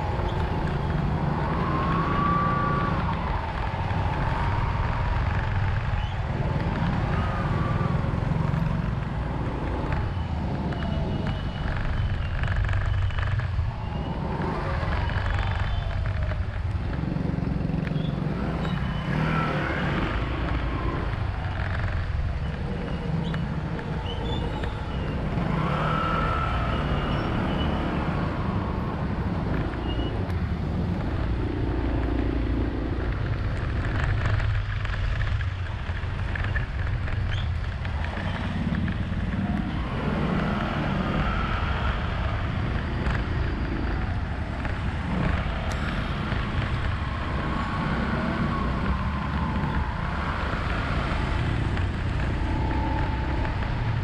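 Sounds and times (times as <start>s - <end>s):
vehicle engine and road noise: 0.0s - 54.0s
vehicles passing: 0.0s - 54.0s.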